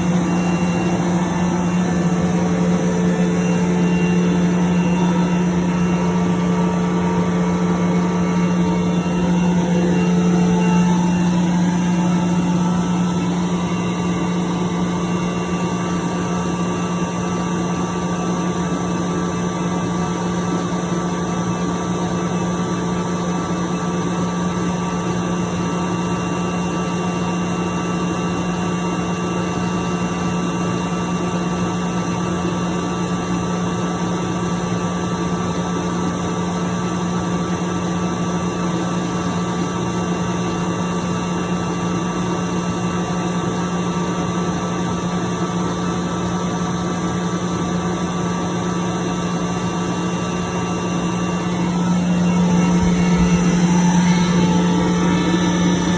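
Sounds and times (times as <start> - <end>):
air compressor humming: 0.0 - 33.6, 34.2 - 55.9.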